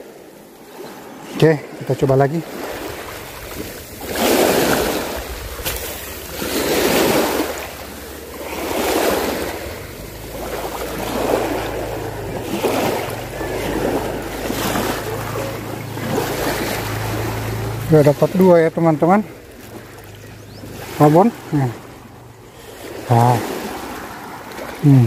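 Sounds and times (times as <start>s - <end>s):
small waves washing onto shore: 0.0s - 25.0s.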